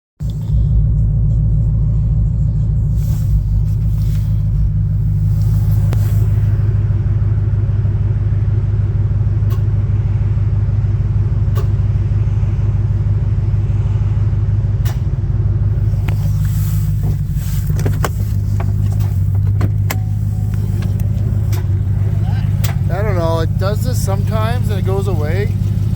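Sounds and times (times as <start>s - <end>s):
engine knocking: 0.2s - 25.9s
truck engine idling: 0.2s - 25.9s.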